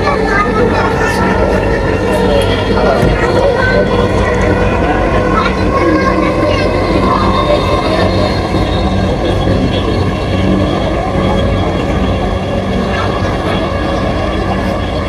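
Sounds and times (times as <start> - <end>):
low even hum: 0.0 - 15.0
train running rumble: 0.0 - 15.0.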